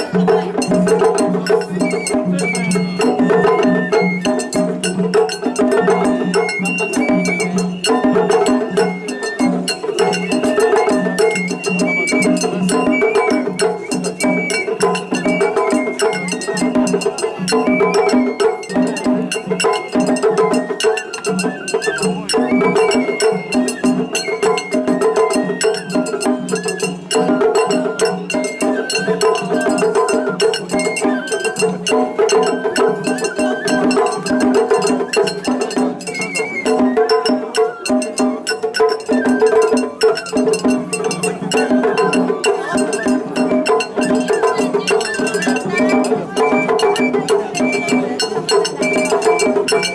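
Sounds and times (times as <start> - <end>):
bamboo flute melody: 0.0 - 49.9
drum strikes: 0.0 - 49.9.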